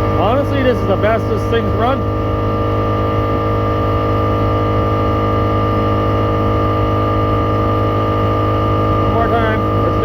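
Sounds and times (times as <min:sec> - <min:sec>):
air compressor running: 0:00.0 - 0:10.0.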